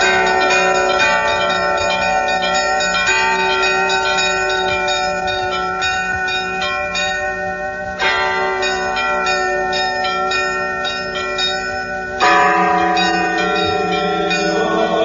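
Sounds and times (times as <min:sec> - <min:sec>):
bronze bells ringing: 0:00.0 - 0:15.0.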